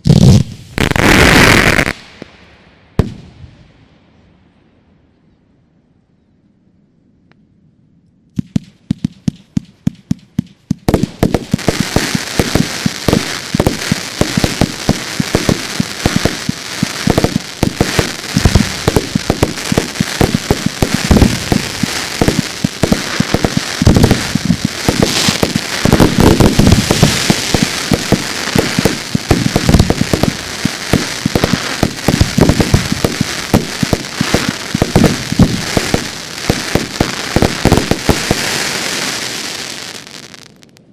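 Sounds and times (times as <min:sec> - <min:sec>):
fireworks bangs and crackle: 0:00.0 - 0:03.8, 0:08.4 - 0:40.9.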